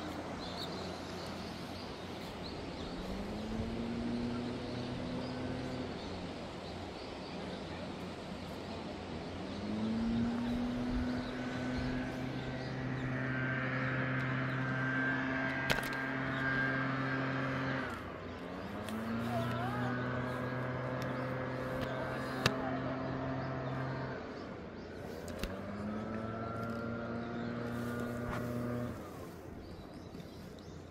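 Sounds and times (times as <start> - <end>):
engine humming: 0.0 - 30.9.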